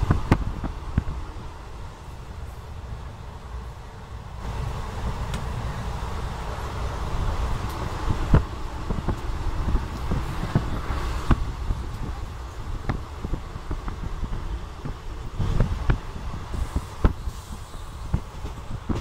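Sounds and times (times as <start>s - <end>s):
train rumble and rushing: 0.0s - 19.0s.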